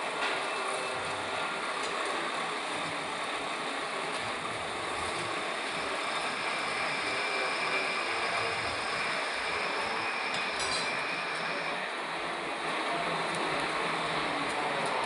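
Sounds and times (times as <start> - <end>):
metal lathe running: 0.0 - 15.0.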